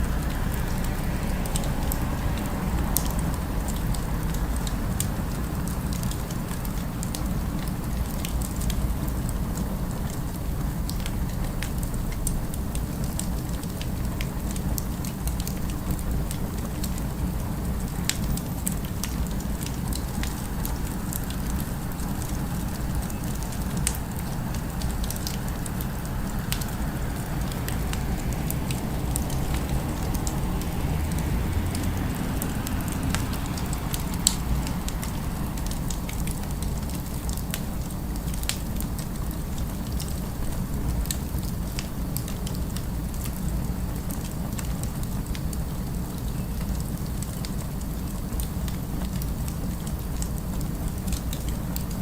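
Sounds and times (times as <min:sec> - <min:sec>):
fire crackling and popping: 0:00.0 - 0:52.0
low city ambience: 0:00.0 - 0:52.0.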